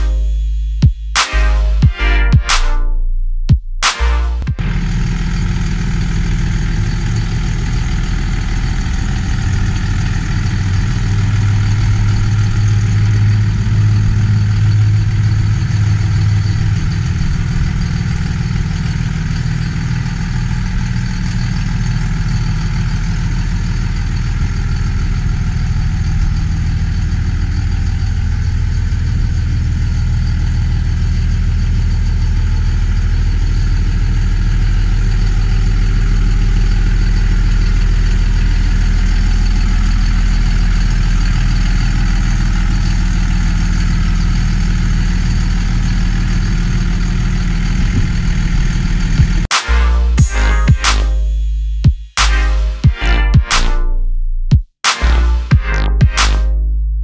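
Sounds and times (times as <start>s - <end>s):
diesel engine idling: 3.9s - 54.0s.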